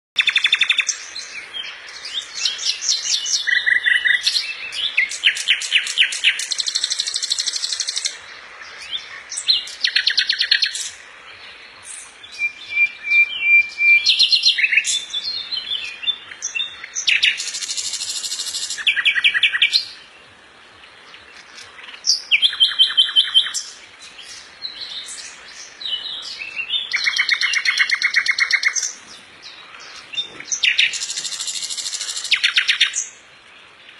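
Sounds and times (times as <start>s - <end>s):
songbirds trilling and chirping: 0.2s - 33.9s.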